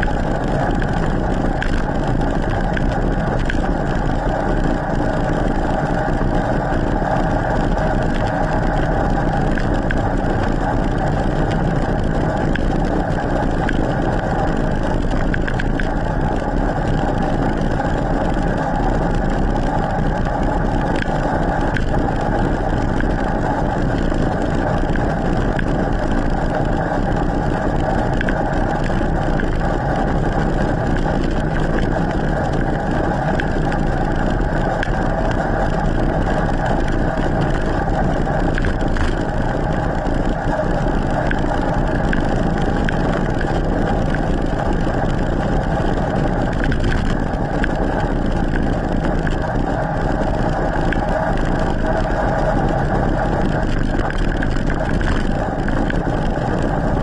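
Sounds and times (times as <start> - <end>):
bike tyres rolling on asphalt: 0.0 - 57.0
steady hum: 0.0 - 57.0.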